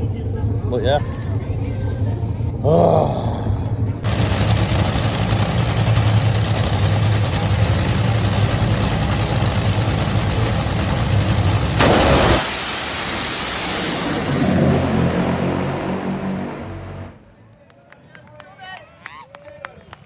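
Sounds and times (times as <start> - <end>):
dragster engines roaring: 0.0 - 17.4.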